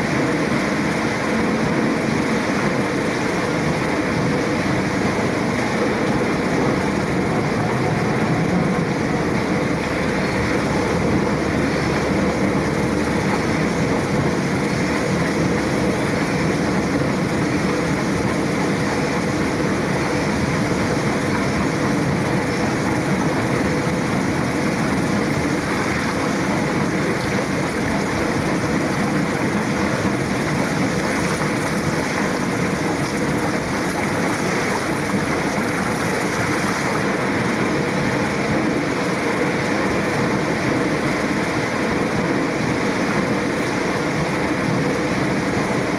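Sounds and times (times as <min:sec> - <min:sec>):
paddle wheel mechanism running: 0:00.0 - 0:45.9.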